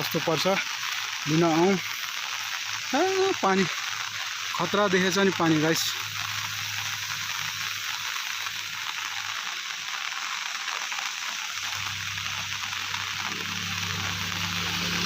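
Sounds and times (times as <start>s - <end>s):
heavy rain hissing: 0.0s - 15.0s
running floodwater: 0.0s - 15.0s.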